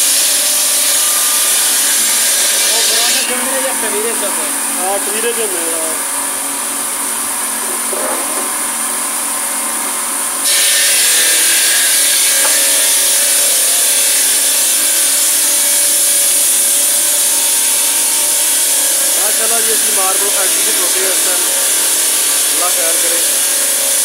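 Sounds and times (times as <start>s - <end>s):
circular saw grinding marble: 0.0s - 6.0s, 10.4s - 24.0s.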